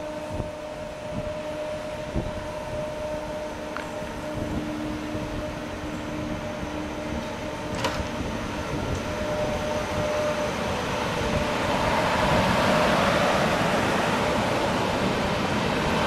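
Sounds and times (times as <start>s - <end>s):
train electric hum and whine: 0.0s - 16.0s
train rolling noise: 0.0s - 16.0s.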